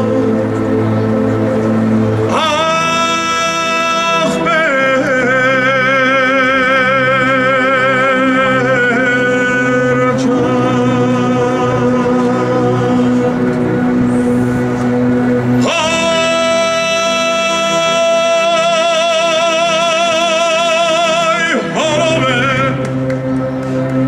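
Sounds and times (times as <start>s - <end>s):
man singing with vibrato: 0.0s - 0.9s, 2.2s - 14.0s, 15.3s - 23.1s
keyboard drone: 0.0s - 24.0s.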